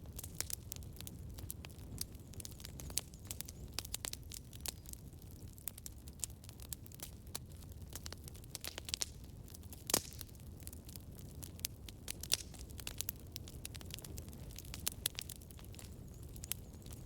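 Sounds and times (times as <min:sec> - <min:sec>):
crackles and pops of burning wood: 0:00.0 - 0:17.0
low rumble of flame: 0:00.0 - 0:17.0.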